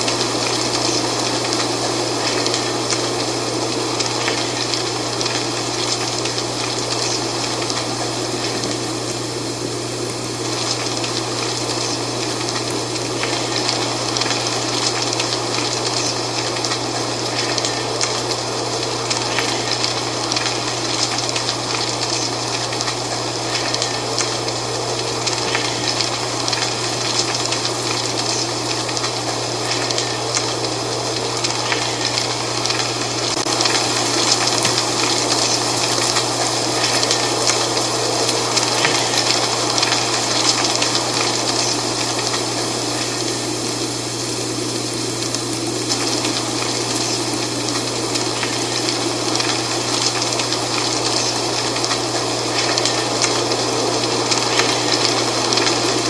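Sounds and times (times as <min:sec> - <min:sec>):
dry leaves rustling in wind: 0:00.0 - 0:56.0.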